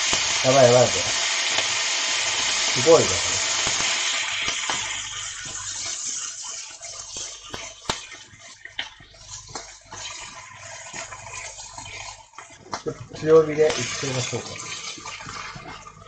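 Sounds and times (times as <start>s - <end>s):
food sizzling in a skillet: 0.0s - 15.8s.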